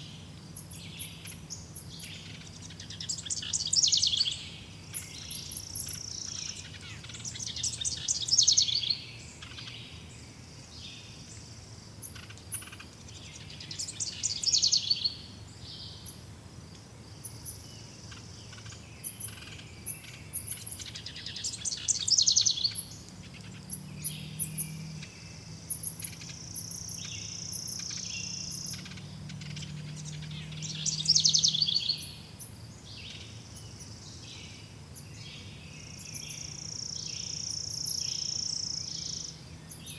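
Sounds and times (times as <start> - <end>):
faint high bird chirps: 0.0 - 16.2, 17.2 - 39.9.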